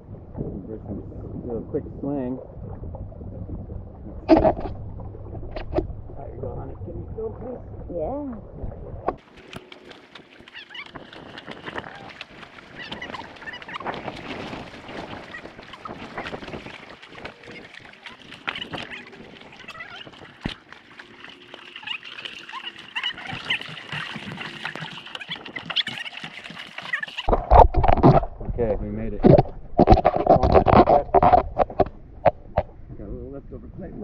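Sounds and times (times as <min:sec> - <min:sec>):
water splashing against rocks: 0:02.0 - 0:28.6, 0:29.2 - 0:32.7.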